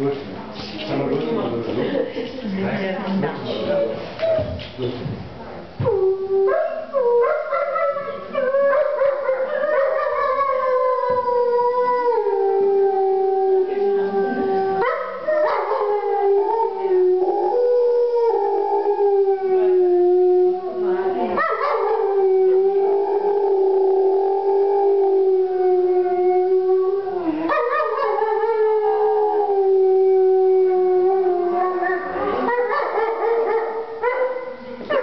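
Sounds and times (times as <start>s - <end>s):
wolf howling: 6.0s - 34.3s.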